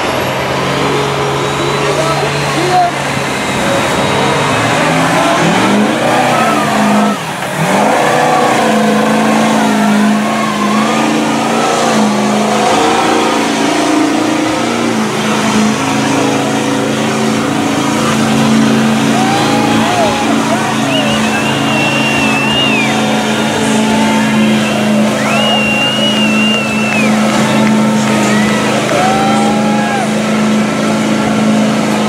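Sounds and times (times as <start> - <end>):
truck engine revving hard: 0.0 - 32.0
truck plowing through muddy water: 0.0 - 32.0.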